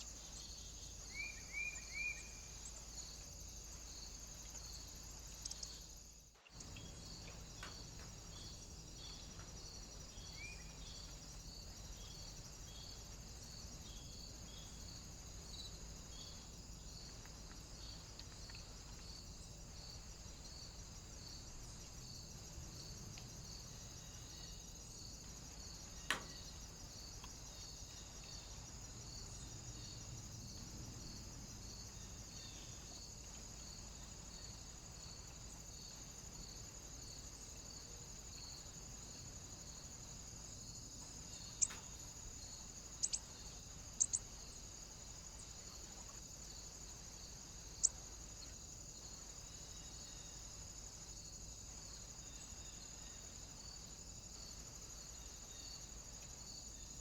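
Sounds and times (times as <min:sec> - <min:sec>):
high cricket-like chirp: 0:00.0 - 0:57.0.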